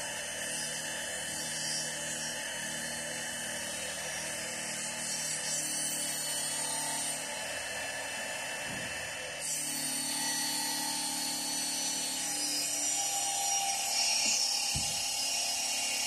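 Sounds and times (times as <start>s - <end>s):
saw blade cutting wood: 0.0s - 16.0s.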